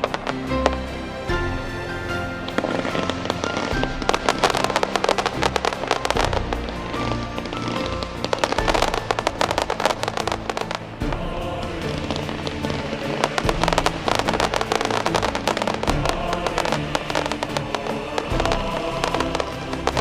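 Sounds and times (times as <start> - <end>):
music playing: 0.0 - 20.0
fireworks crackling and popping: 1.3 - 20.0.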